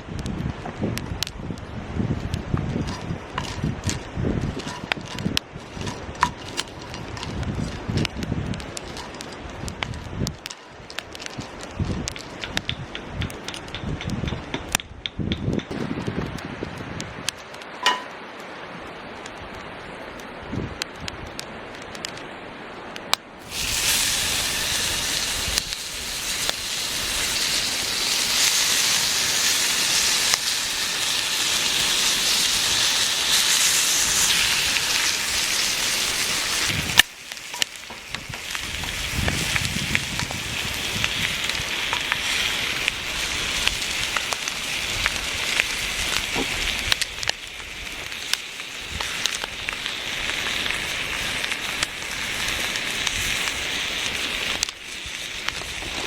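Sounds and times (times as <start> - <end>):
campfire hissing and crackling: 0.0 - 56.0.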